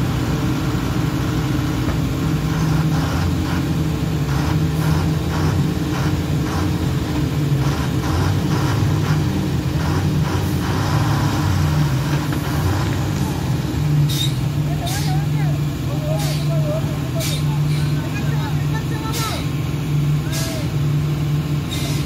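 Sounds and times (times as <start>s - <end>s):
truck diesel engine idling: 0.0s - 22.0s.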